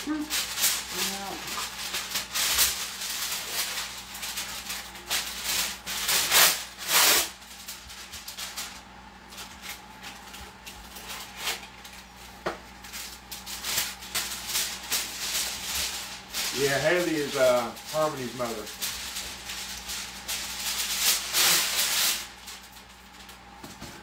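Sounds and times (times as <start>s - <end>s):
hands scraping and rubbing food: 0.0s - 23.2s.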